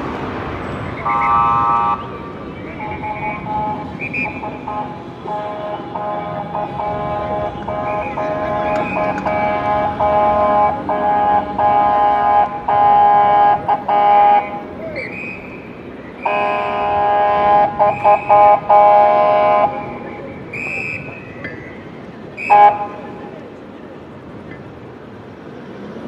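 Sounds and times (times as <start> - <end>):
car horn honking: 0.8 - 21.2, 22.4 - 23.4.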